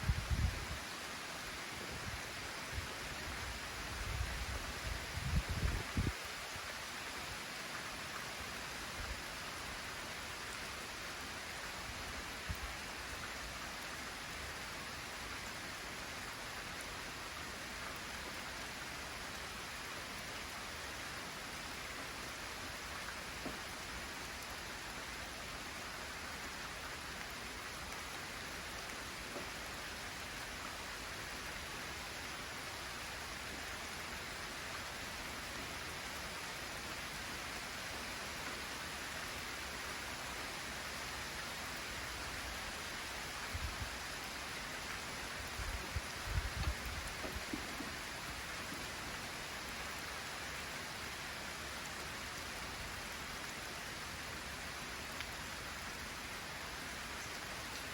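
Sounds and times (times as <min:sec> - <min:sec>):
light rain falling: 0:00.0 - 0:57.9
wind: 0:00.0 - 0:57.9.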